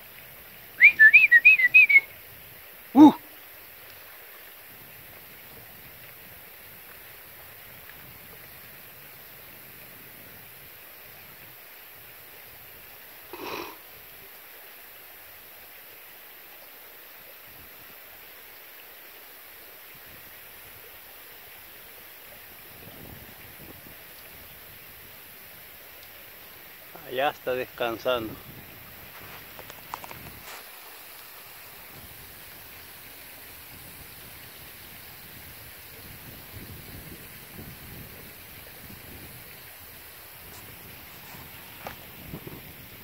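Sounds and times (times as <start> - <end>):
outdoor background hiss: 0.0 - 43.0.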